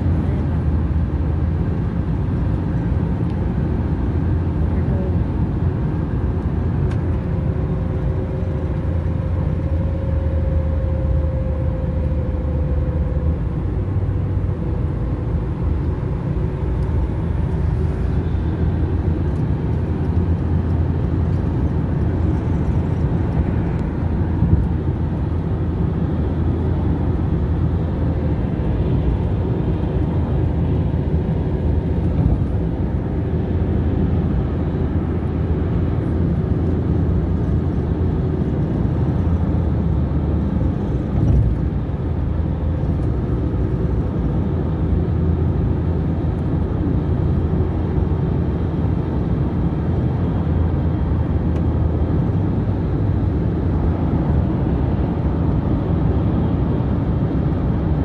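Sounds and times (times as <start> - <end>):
van engine and tyres droning: 0.0 - 58.0.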